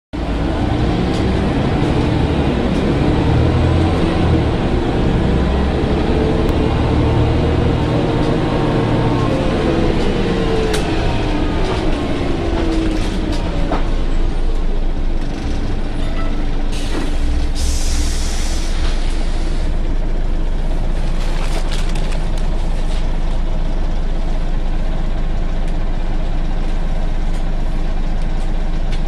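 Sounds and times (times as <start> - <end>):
bus engine rumbling with whine: 0.2 - 29.0.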